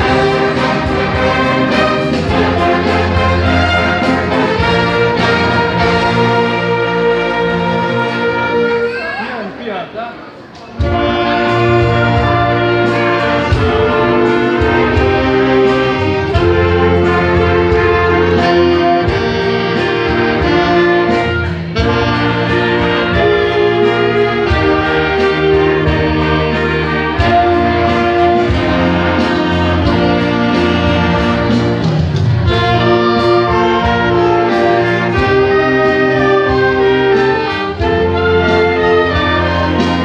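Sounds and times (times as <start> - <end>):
orchestra with brass playing chords: 0.0 - 9.6, 10.7 - 40.0.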